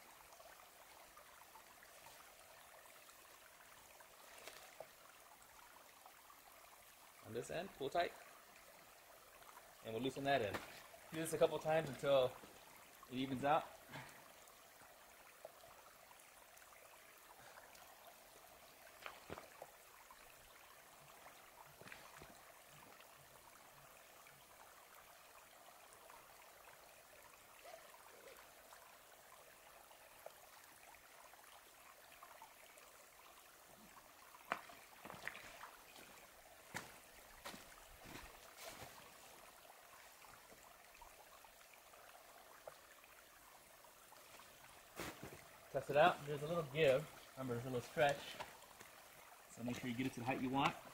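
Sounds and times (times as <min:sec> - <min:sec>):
faint steady hiss: 0:00.0 - 0:50.9.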